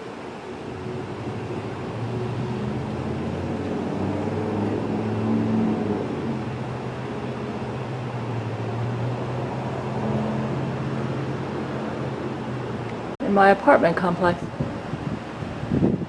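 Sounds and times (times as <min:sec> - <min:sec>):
low engine-like hum: 0:00.0 - 0:15.7.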